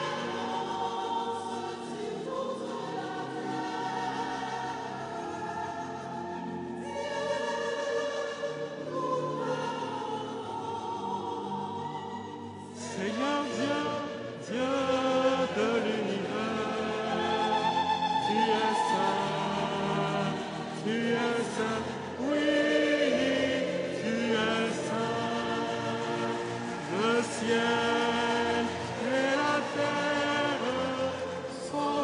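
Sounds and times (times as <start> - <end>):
church choir singing a hymn: 0.0 - 32.0.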